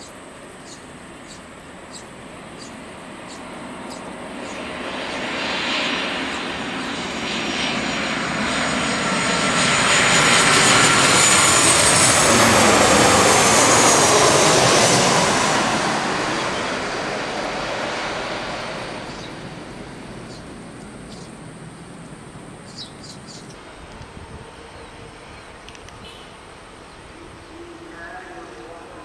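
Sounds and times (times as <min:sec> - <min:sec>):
jet airliner flying overhead: 0:00.0 - 0:29.0.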